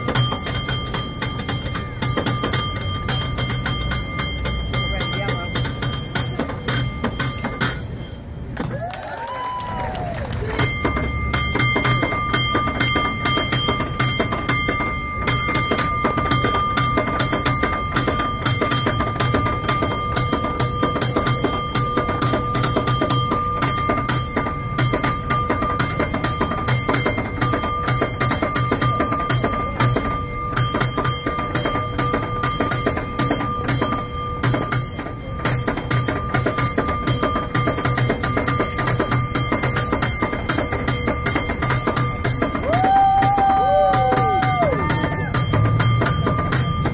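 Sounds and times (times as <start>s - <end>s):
cable car bell ringing: 0.0s - 46.9s.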